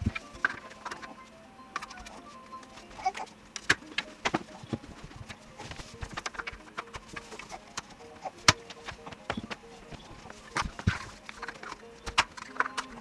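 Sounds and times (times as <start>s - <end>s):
household objects clicking and knocking: 0.0s - 13.0s.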